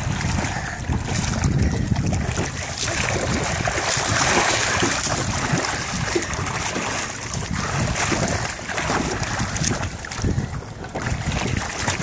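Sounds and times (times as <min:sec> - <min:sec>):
water splashing from swimming: 0:00.0 - 0:12.0
wind noise on microphone: 0:00.0 - 0:12.0.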